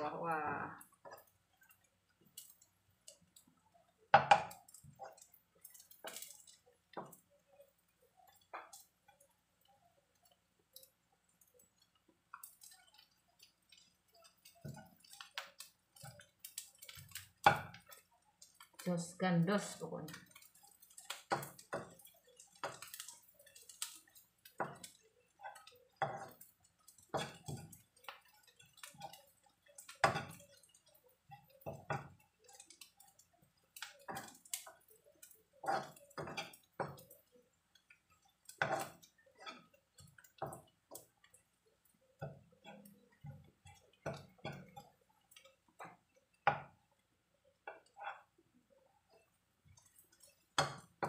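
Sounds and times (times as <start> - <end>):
spatula scraping and knocking wok: 0.0 - 3.4, 4.1 - 47.0, 47.6 - 48.4, 49.1 - 51.0.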